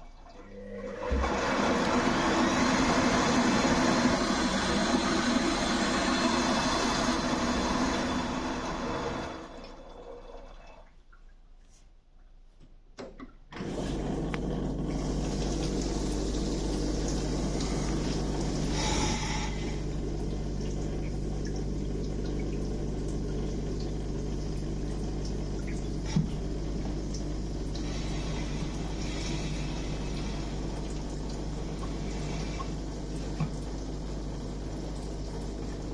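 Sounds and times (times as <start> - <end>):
water rushing through washing machine: 0.0 - 11.1, 13.5 - 35.9.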